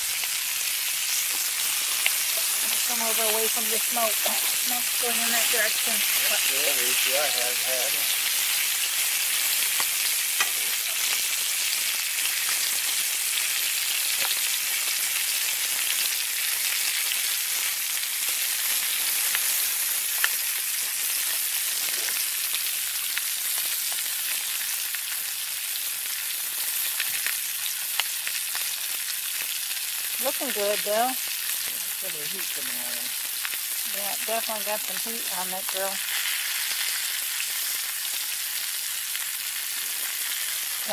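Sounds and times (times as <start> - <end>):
sausages sizzling in a skillet: 0.0 - 40.9.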